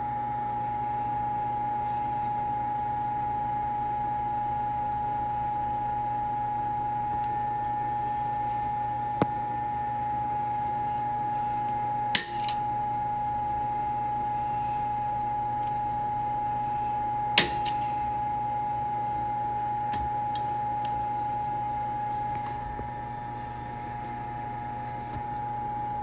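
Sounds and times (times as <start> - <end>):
high electrical whine: 0.0 - 26.0
low mains hum: 0.0 - 26.0.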